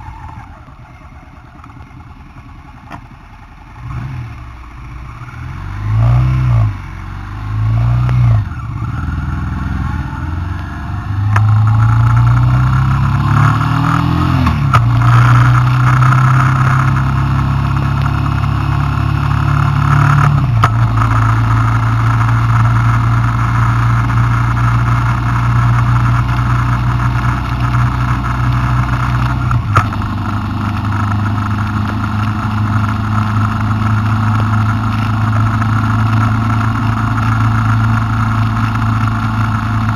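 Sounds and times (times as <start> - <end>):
wind and road rush: 0.0 - 39.9
vehicle engine revving and accelerating: 3.7 - 39.9.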